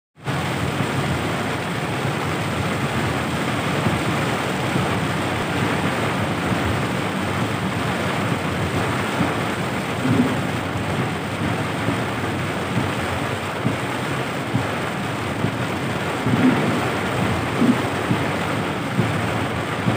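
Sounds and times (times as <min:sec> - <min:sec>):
heavy rain on car windshield: 0:00.2 - 0:19.9
tyre noise on flooded road: 0:00.2 - 0:19.9.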